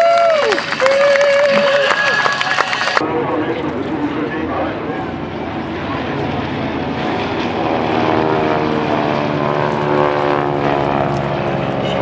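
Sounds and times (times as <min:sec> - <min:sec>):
propeller airplane flying by: 0:00.0 - 0:12.0.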